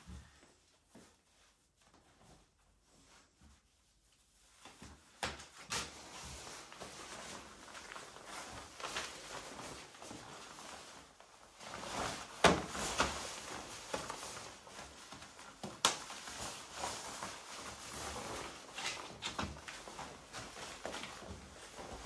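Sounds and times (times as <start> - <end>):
gear rustling and shuffling: 0.0 - 22.0.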